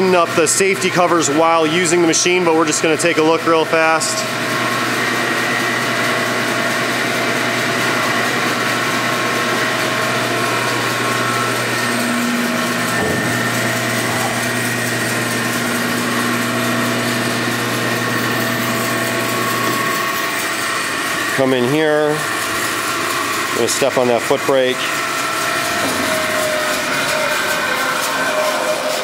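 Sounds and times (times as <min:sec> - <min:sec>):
bandsaw running idle: 0:00.0 - 0:29.0.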